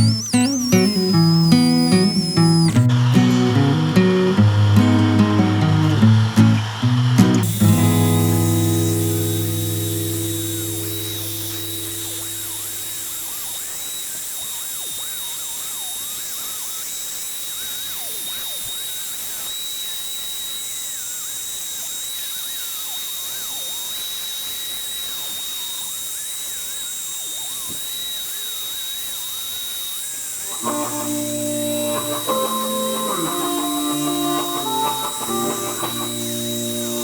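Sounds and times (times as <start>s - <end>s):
high-speed rotary tool whining: 0.0s - 4.8s, 5.7s - 37.0s.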